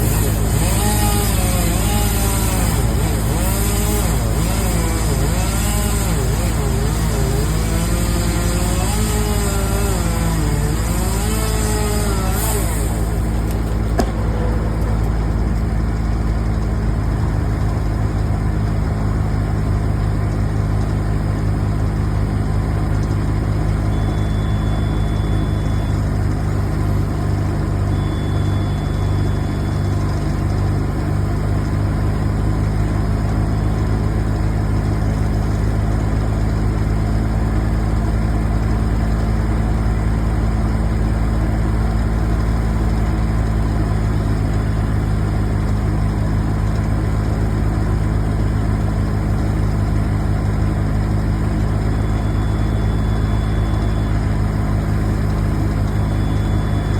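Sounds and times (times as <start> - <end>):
large engine idling: 0.0 - 56.9.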